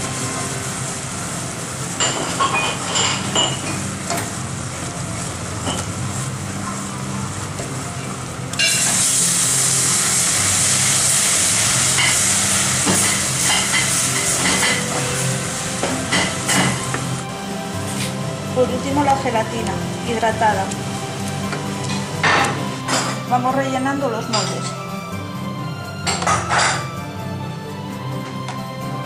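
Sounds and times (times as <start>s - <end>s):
loud sizzle: 0.0s - 29.0s.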